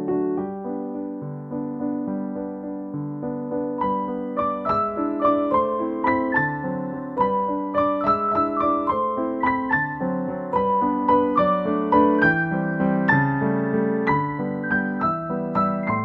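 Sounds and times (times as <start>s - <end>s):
gentle piano-like keyboard music: 0.0s - 16.0s.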